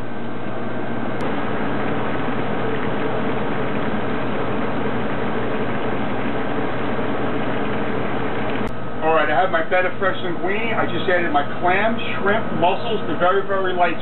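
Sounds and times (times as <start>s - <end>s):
constant mechanical hum: 0.0s - 14.0s.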